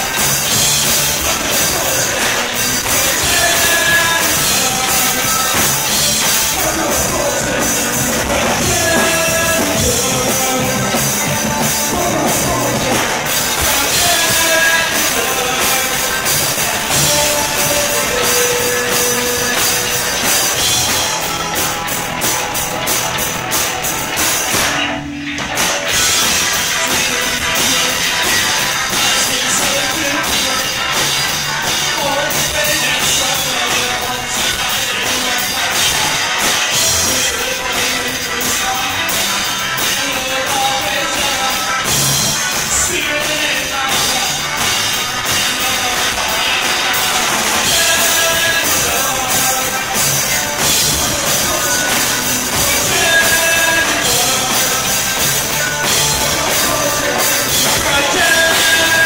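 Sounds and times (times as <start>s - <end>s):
person singing: 0.0s - 22.8s, 24.5s - 59.0s
live rock band playing: 0.0s - 59.0s.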